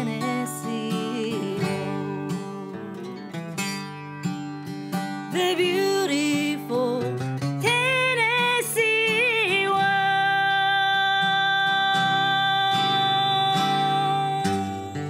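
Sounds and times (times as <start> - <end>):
woman singing with vibrato: 0.0 - 3.2, 5.3 - 15.0
acoustic guitar strumming: 0.0 - 15.0.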